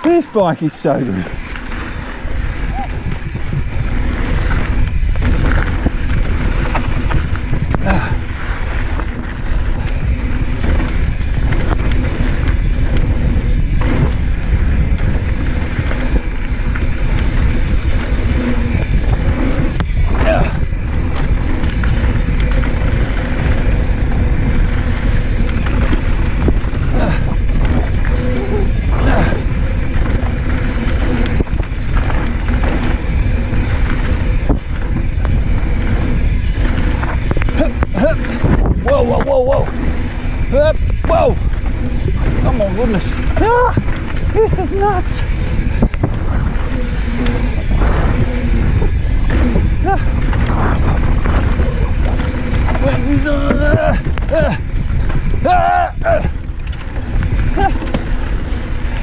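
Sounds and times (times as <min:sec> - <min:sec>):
bike clicking and clacking: 0:00.0 - 0:59.0
bike tyres rolling over gravel: 0:00.0 - 0:59.0
wind rumble on microphone: 0:01.2 - 0:59.0.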